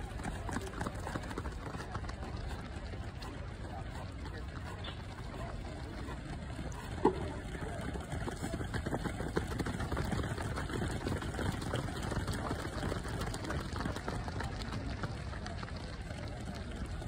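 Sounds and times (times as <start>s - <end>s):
runners footsteps on track: 0.0s - 17.0s.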